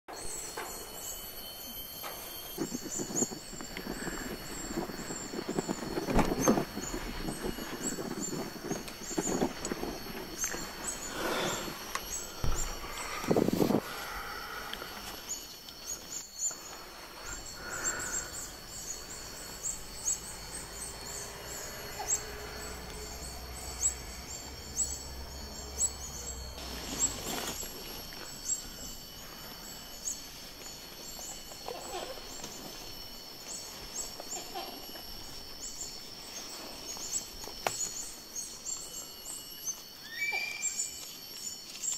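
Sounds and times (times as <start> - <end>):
constant high hiss: 0.1 - 41.9.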